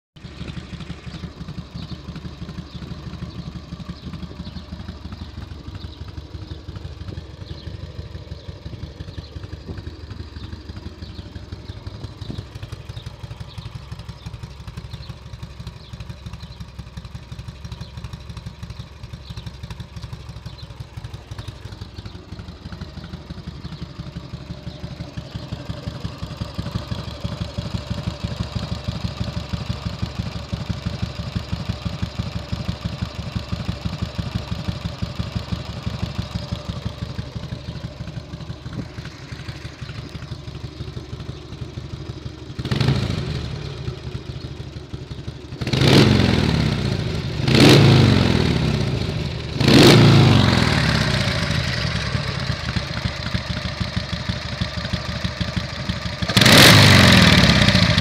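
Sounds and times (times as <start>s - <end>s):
motorcycle engine idling: 0.2s - 58.0s.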